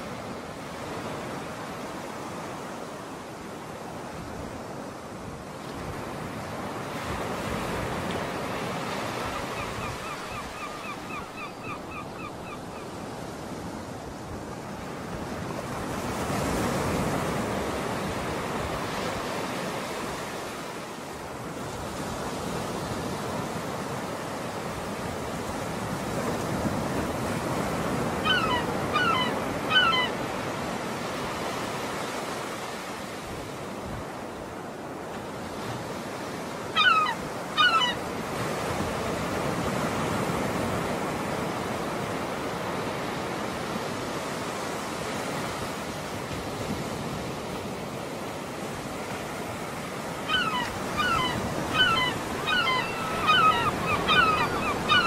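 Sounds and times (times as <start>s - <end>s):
small waves washing onto beach: 0.0s - 55.0s
wind: 0.0s - 55.0s.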